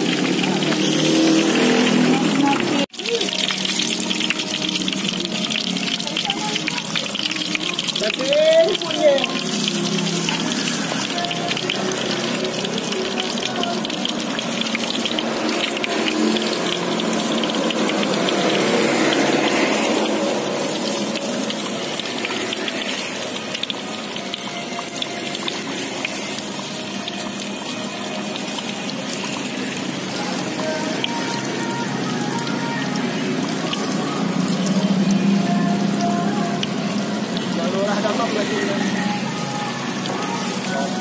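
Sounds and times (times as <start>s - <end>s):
oil sizzling and crackling: 0.0s - 41.0s.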